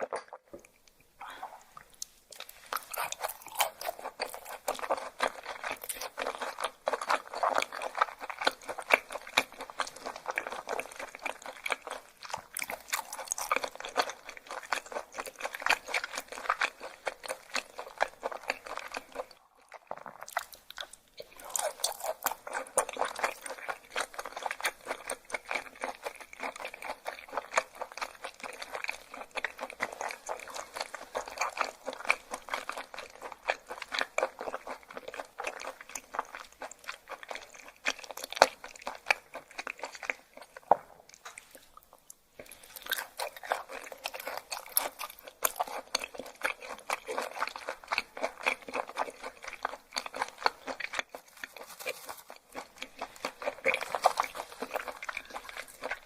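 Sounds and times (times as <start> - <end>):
crisp crunchy chewing: 0.0 - 56.0.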